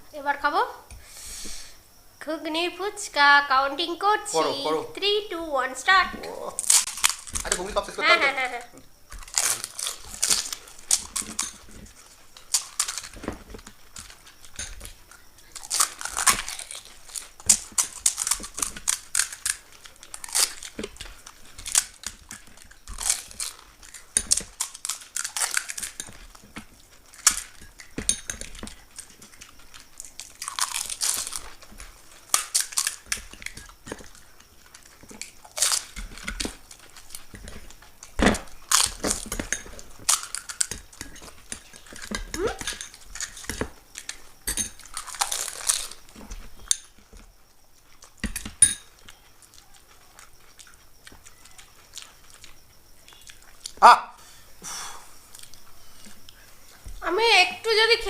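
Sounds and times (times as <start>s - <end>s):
crisp shells crunching when chewed: 6.4s - 8.0s, 8.6s - 53.8s, 55.3s - 56.8s.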